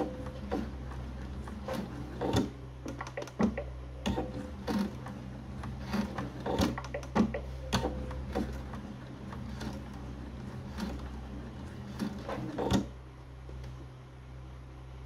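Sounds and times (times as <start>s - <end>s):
sewing machine stitching: 0.0s - 13.0s.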